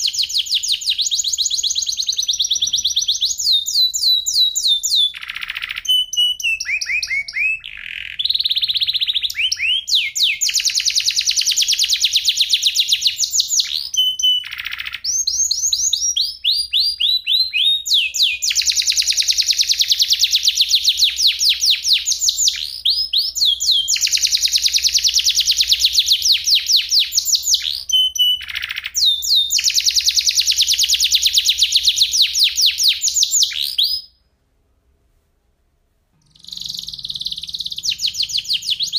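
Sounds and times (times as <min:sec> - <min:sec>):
canary singing trills: 0:00.0 - 0:34.2, 0:36.2 - 0:38.9.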